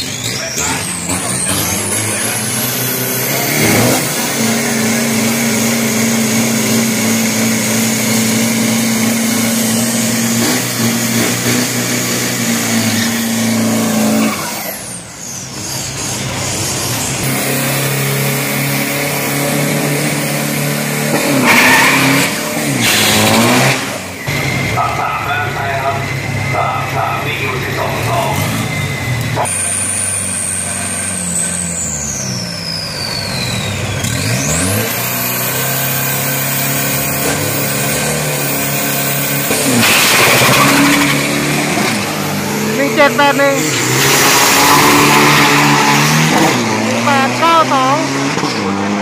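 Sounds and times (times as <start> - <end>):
engine held at high revs: 0.0 - 49.0
engine rev blips: 0.0 - 49.0.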